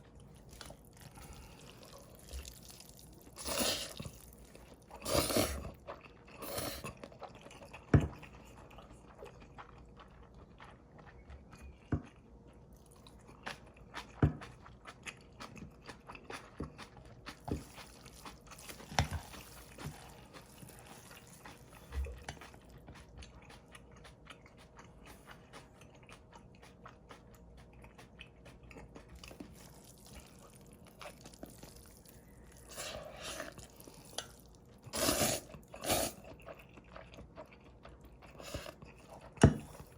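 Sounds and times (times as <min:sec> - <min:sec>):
person chewing noodles: 0:00.0 - 0:39.9.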